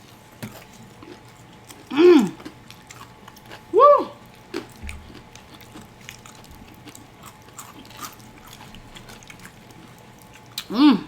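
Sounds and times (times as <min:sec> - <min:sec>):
chewing crunches and wet smacks: 0:00.0 - 0:10.7.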